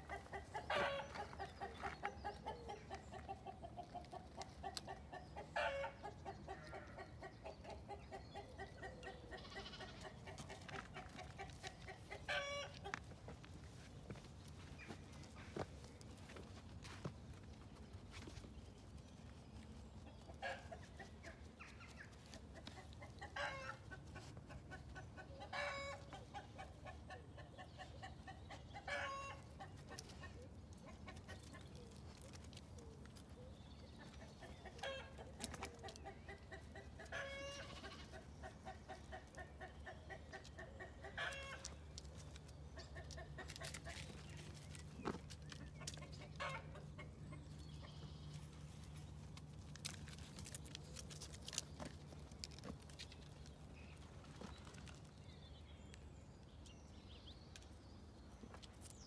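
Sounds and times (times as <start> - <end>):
hen clucking: 0.0 - 13.5, 20.0 - 55.1.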